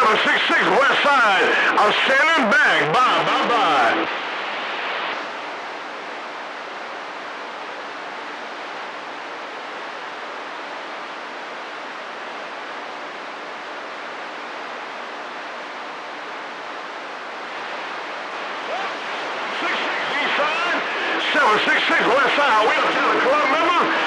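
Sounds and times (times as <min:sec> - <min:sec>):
faint hum: 0:00.0 - 0:24.0
radio static hiss: 0:00.0 - 0:24.0.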